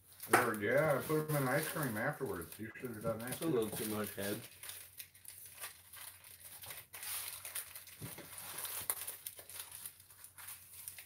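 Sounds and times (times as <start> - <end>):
plastic wrapper crinkling: 0.0 - 11.0
wrapper being torn open: 0.1 - 11.0.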